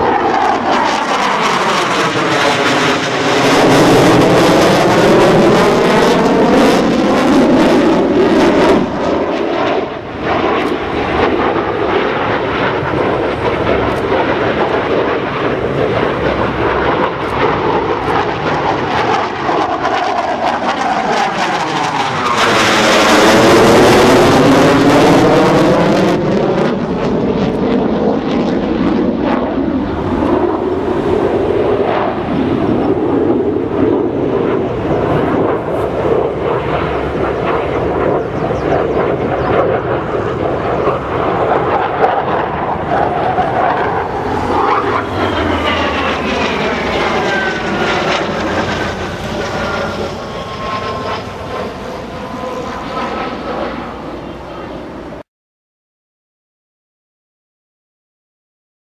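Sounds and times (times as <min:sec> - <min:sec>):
falling jet whine: 0:00.0 - 0:55.2
jet fighter passing overhead: 0:00.0 - 0:55.3.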